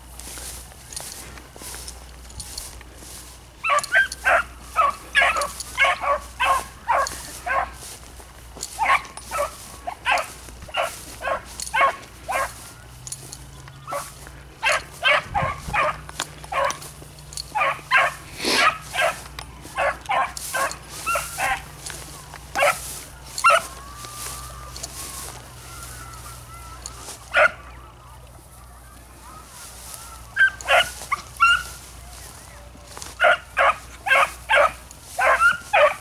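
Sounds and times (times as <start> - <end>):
dogs barking: 0.9 - 27.9, 29.2 - 36.0.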